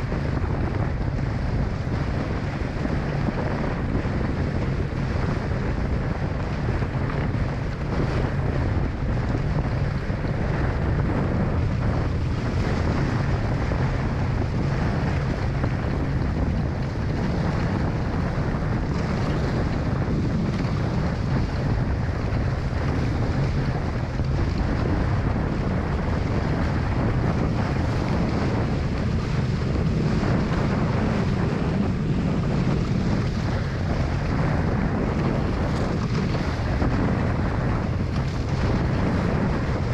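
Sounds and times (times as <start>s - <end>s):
water rushing along hulls: 0.0s - 39.9s
wind buffeting microphone: 0.0s - 39.9s.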